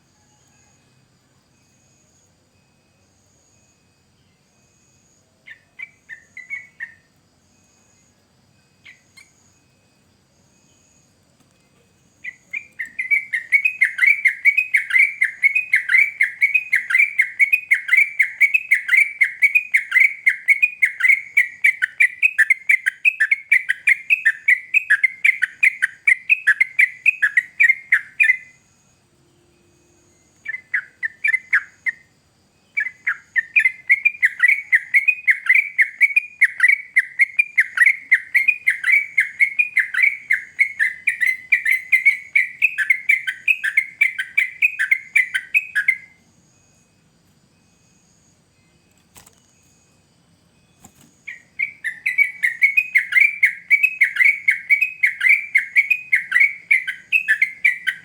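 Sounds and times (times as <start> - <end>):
bulbul singing: 5.5 - 9.7, 11.9 - 58.0.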